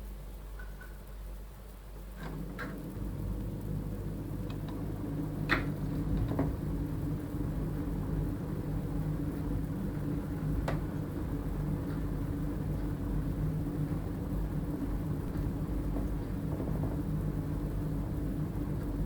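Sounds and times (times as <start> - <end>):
gas boiler humming: 0.0 - 19.0.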